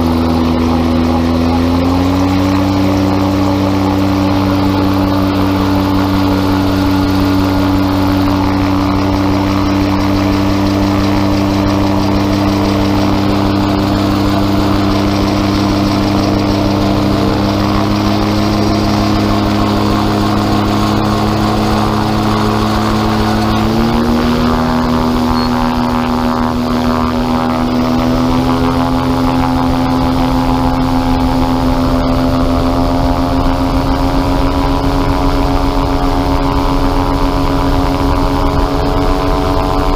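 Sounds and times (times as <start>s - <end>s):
gyrocopter engine and propeller: 0.0s - 39.9s.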